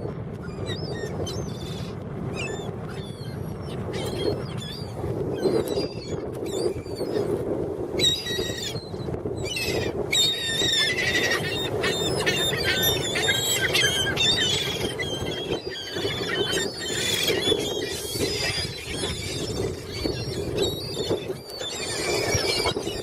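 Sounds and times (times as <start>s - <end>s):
seagulls calling: 0.5s - 7.3s, 8.0s - 23.0s.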